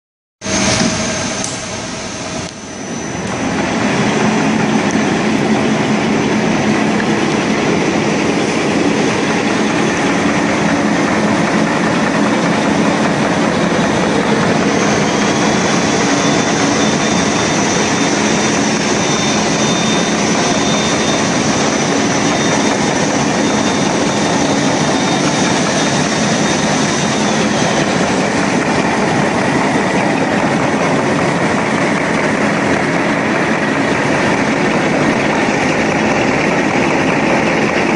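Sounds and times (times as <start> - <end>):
thin high whine: 0.4 - 37.9.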